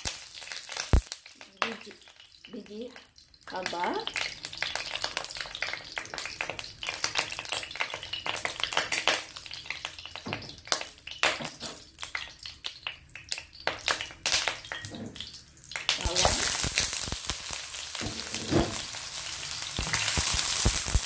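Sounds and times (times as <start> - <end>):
seeds frying and popping in oil: 0.0 - 21.0.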